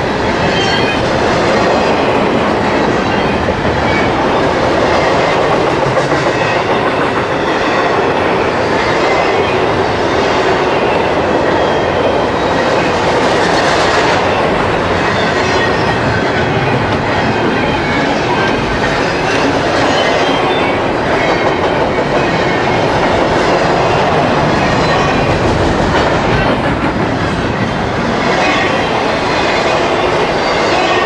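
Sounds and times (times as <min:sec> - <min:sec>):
steel wheels rumbling on rail: 0:00.0 - 0:31.0
clickety-clack over rail joints: 0:00.5 - 0:31.0.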